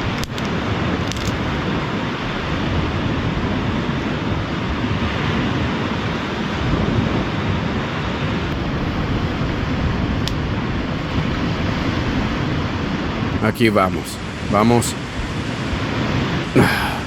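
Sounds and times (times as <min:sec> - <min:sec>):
ocean surf: 0:00.6 - 0:17.0.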